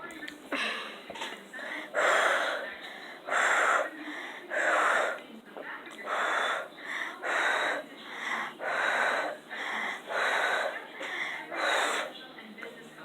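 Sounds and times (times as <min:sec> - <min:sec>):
person breathing heavily: 0:00.5 - 0:05.2, 0:06.0 - 0:12.2.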